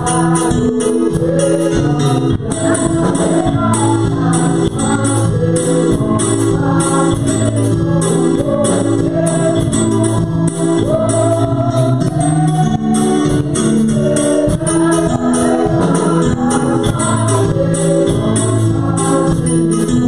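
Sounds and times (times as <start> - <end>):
electronic keyboard: 0.0 - 20.0
steady percussion beat: 0.0 - 20.0
woman singing into microphone: 0.0 - 20.0.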